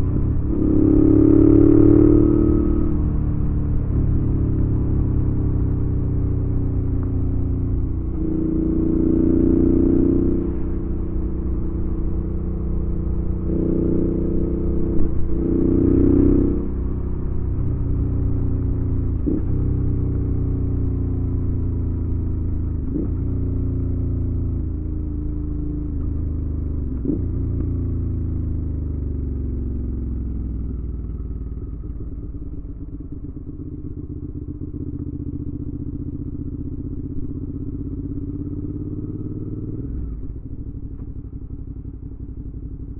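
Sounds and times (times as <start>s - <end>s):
motorcycle engine riding: 0.0s - 42.9s.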